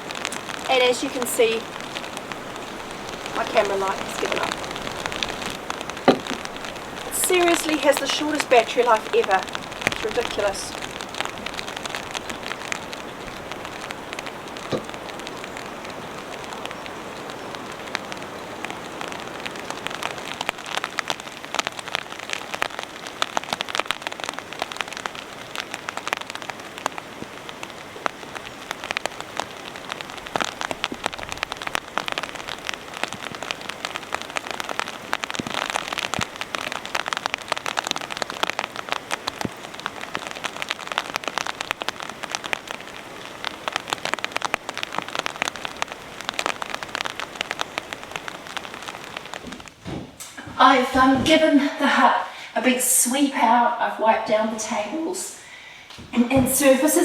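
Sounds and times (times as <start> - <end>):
sharp raindrop hits: 0.0 - 52.5
heavy rain falling: 0.0 - 57.0.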